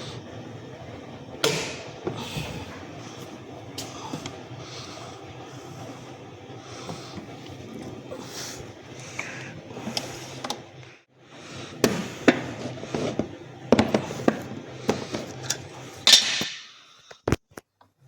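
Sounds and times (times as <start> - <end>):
washing machine motor hum: 0.0 - 16.9.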